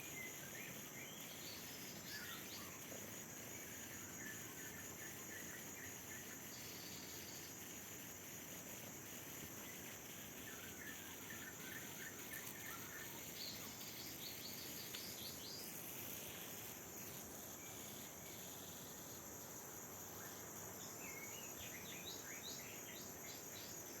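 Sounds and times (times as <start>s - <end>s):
high-pitched insect trill: 0.0s - 24.0s.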